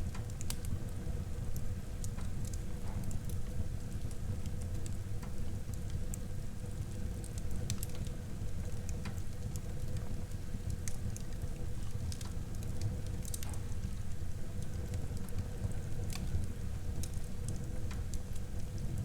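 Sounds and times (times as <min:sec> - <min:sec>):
fire crackles and pops: 0:00.0 - 0:19.0.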